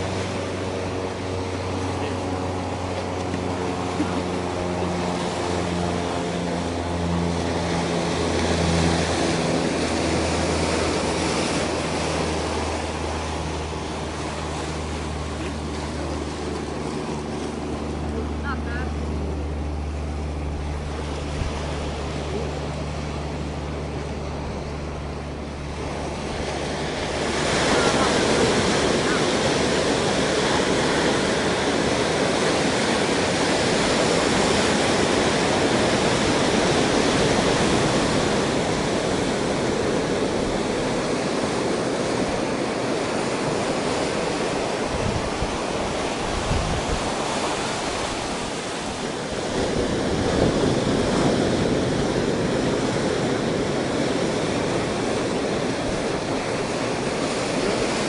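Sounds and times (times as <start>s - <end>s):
low engine hum: 0.0s - 58.0s
surf breaking on rocky beach: 7.0s - 58.0s.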